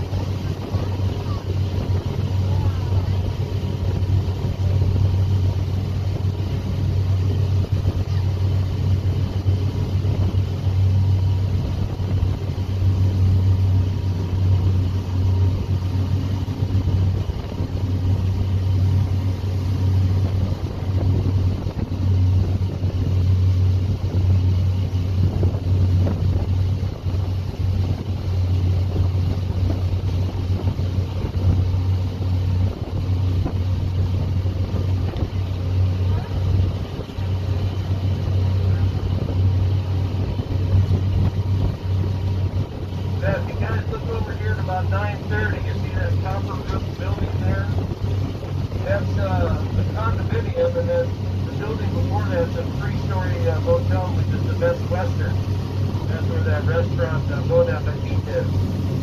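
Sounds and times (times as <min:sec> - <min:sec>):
boat engine droning: 0:00.0 - 0:59.0
rush of wind and water: 0:00.0 - 0:59.0.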